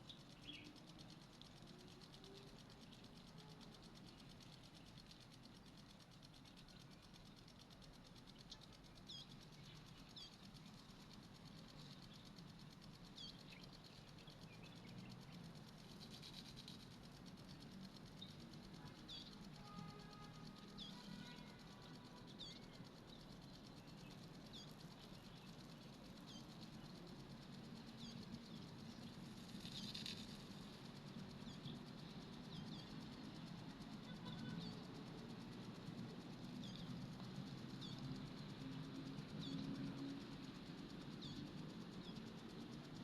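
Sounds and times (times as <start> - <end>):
small bird chirping: 0.0 - 43.0.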